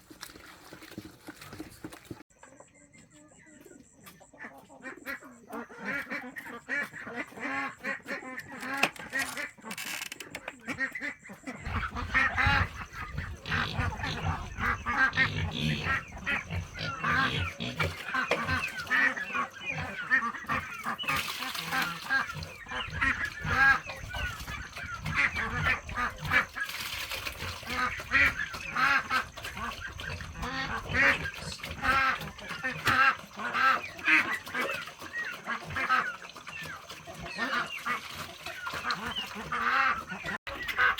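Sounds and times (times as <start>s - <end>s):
flock of waterfowl calling: 3.9s - 40.9s.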